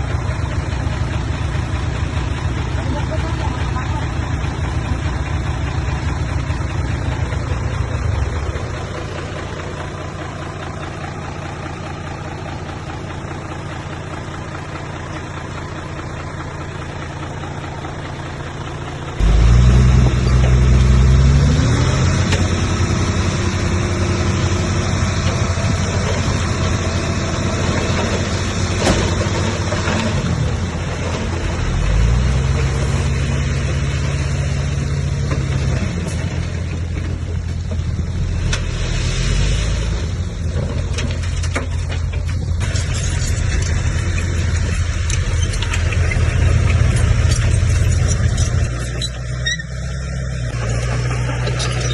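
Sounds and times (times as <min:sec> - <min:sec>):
bulldozer diesel engine: 0:00.0 - 0:51.9.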